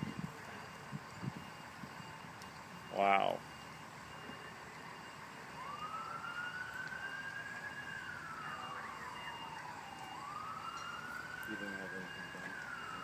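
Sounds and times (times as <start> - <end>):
siren wailing: 0.1 - 13.0.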